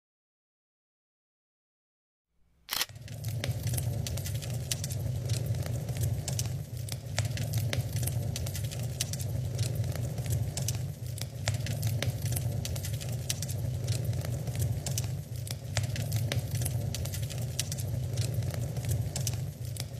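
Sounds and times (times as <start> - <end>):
fire crackling and popping: 2.7 - 19.9
low rumble of burning logs: 2.8 - 19.9.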